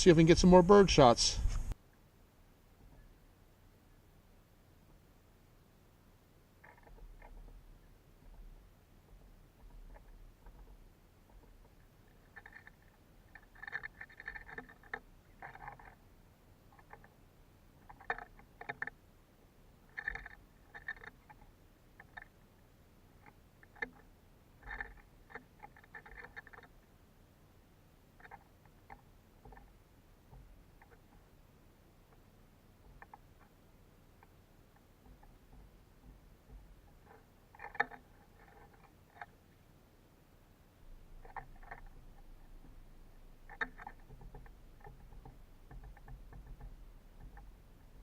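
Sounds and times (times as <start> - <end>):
birds pecking at feeders: 0.0 - 48.0.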